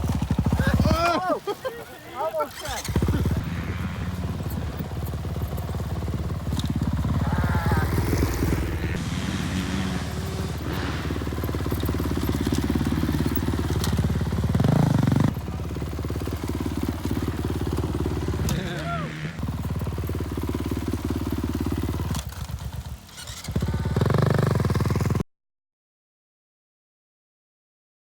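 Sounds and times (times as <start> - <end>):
dirt bike engine revving: 0.0 - 25.2.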